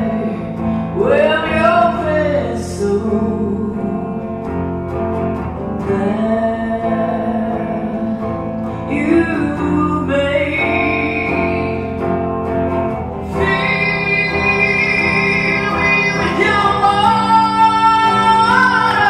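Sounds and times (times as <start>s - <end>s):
electric guitar accompaniment: 0.0s - 19.0s
woman singing slow song: 0.0s - 19.0s.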